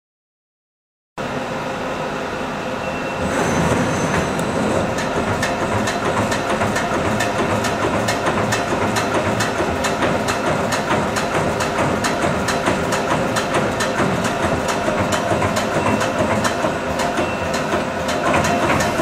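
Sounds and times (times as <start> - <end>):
punch press running: 3.2 - 19.0.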